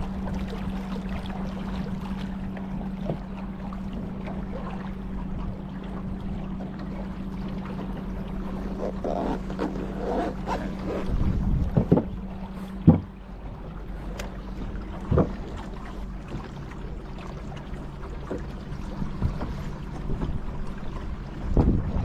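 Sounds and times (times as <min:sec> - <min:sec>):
steady low hum: 0:00.0 - 0:22.0
water splashing around a boat: 0:00.0 - 0:22.0.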